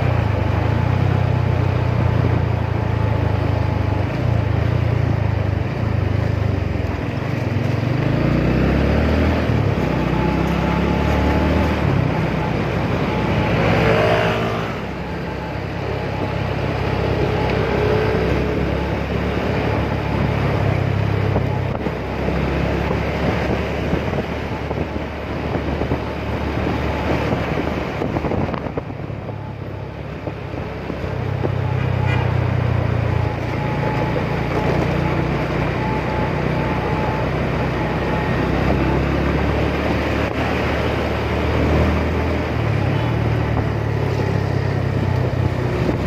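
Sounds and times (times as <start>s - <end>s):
motorcycle engine revving: 0.0s - 46.0s
wind noise on microphone: 0.0s - 46.0s.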